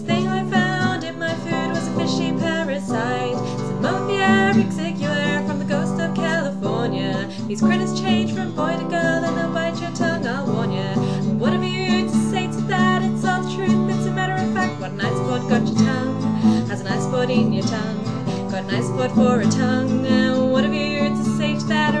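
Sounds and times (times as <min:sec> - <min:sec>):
acoustic guitar strumming: 0:00.0 - 0:22.0
woman singing: 0:00.0 - 0:22.0.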